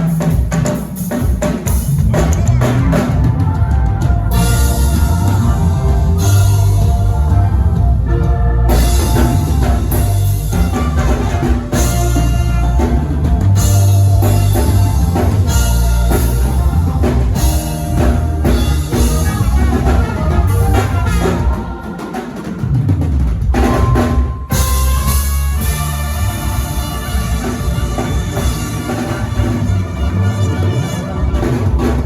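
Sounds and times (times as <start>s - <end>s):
drum kit: 0.0s - 32.0s
loud band music: 0.0s - 32.0s
heavy bass: 1.7s - 21.8s, 22.6s - 32.0s.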